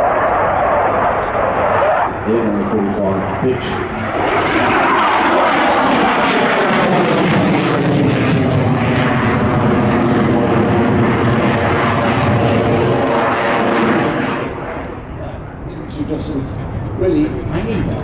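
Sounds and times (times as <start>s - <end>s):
fighter jet flying loud: 0.0s - 18.0s.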